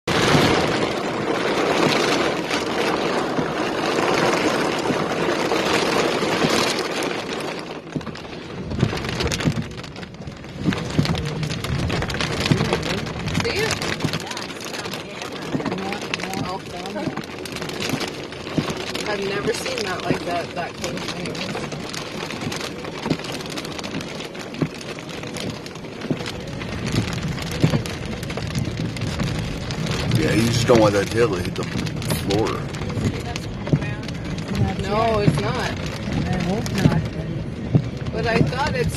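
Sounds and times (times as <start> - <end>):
heavy rain drumming on car: 0.0 - 38.9
road noise: 0.0 - 38.9
scattered raindrops hitting: 0.0 - 38.9.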